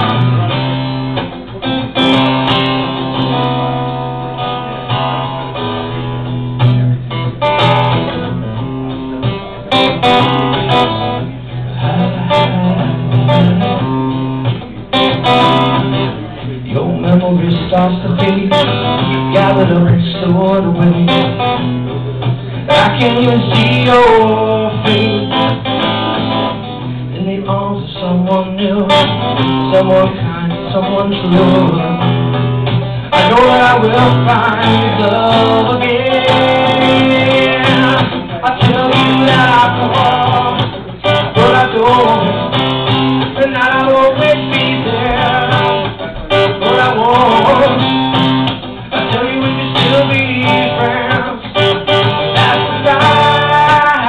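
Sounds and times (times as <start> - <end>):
acoustic guitar strumming: 0.0 - 54.0
man singing: 9.2 - 13.9, 14.5 - 54.0.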